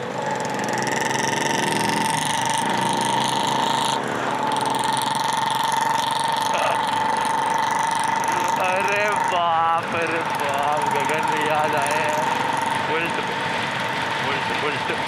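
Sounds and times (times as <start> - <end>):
motorcycle engine whine: 0.0 - 15.0
wind and road noise: 0.0 - 15.0.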